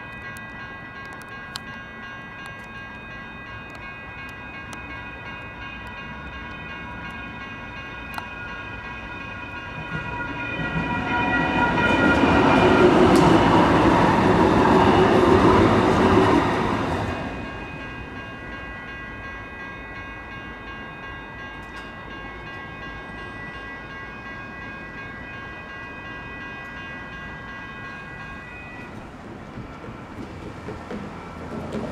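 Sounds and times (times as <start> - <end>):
electronic crossing bells ringing: 0.0 - 29.3
train rumble: 0.0 - 31.9.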